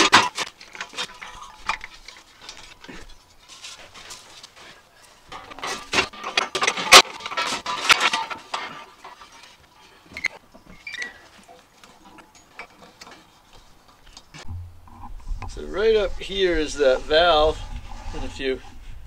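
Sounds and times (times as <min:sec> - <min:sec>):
metal tanks knocking and scraping: 0:00.0 - 0:19.0.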